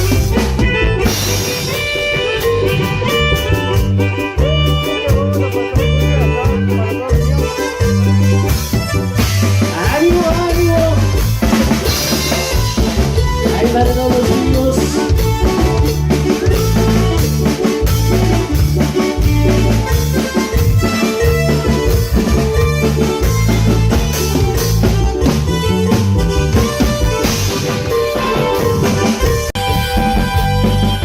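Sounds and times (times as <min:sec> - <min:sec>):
bass line: 0:00.0 - 0:31.0
drum kit beat: 0:00.0 - 0:31.0
latin dance band playing: 0:00.0 - 0:31.0.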